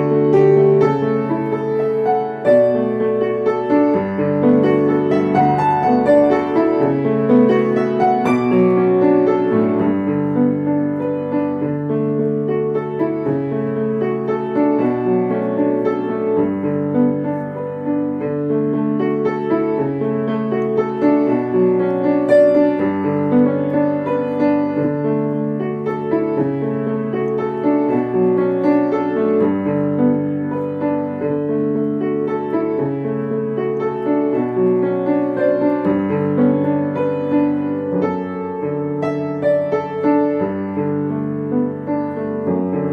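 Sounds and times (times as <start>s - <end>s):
piano piece: 0.0s - 42.9s.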